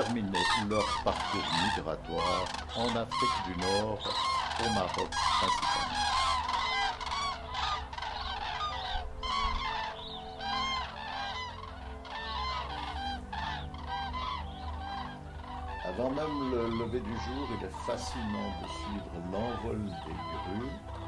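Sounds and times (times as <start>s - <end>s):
cranes calling in flight: 0.0s - 21.0s.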